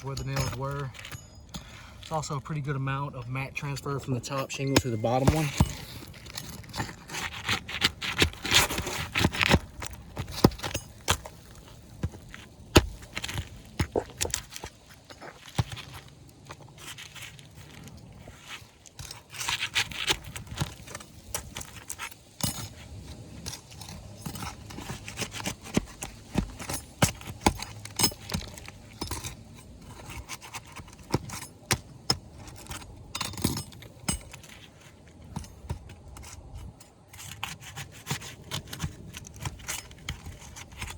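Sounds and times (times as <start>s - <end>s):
pry bar scraping on shingles: 0.0s - 40.9s
shingles crackling and tearing: 0.0s - 40.9s.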